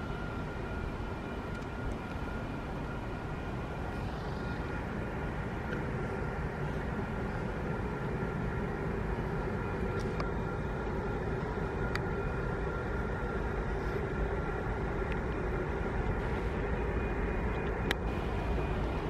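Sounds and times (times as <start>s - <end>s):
faint hum tones: 0.0s - 19.0s
outdoor background rumble: 0.0s - 19.0s.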